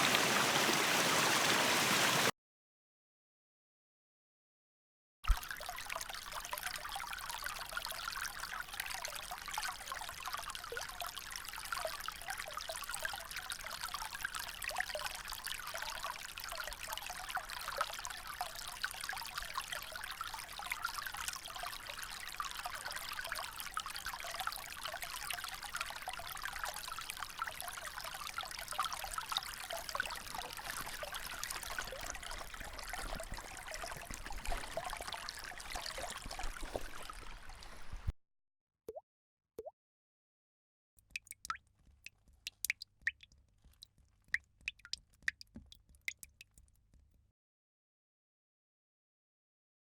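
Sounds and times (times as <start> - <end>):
stream trickling: 0.0 - 2.3, 5.3 - 38.1, 41.0 - 47.1.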